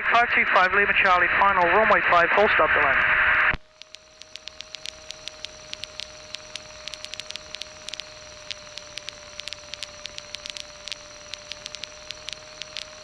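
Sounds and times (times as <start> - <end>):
faint constant tone: 0.0 - 13.0
radio hiss: 0.0 - 13.0
static crackles: 0.0 - 13.0.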